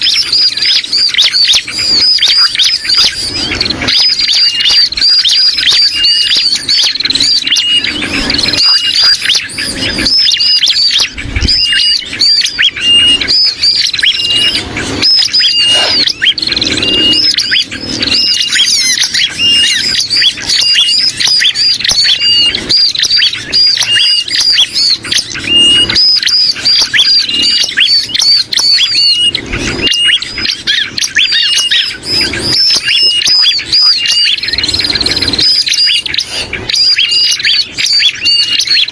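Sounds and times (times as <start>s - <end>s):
high repeated bird chirps: 0.0s - 38.9s.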